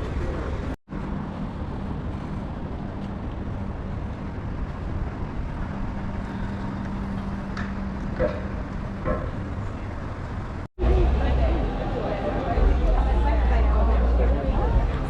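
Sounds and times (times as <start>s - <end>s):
low hum: 0.0s - 15.0s
motor vehicle rumble: 0.0s - 15.0s.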